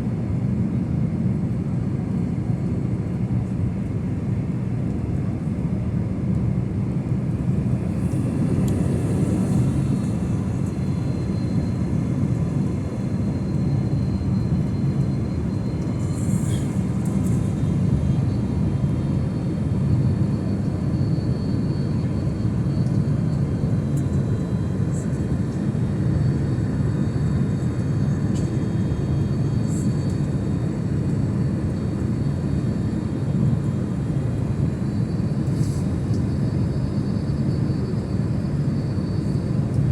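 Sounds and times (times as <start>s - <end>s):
jet airliner low rumble: 0.0s - 39.9s.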